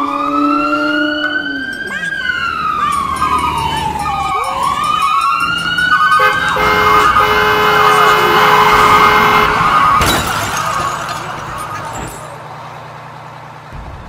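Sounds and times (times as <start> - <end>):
siren wailing: 0.0 - 12.2.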